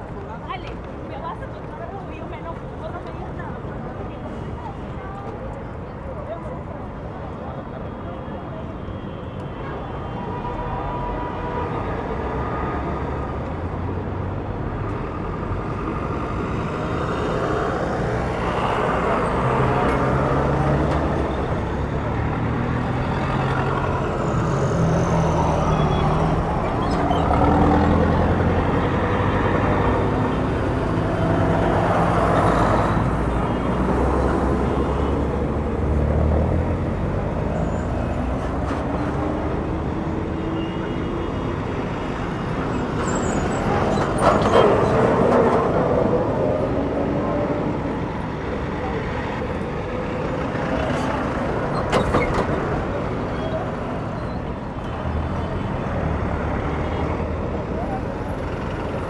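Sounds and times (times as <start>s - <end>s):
traffic passing: 0.0s - 59.0s.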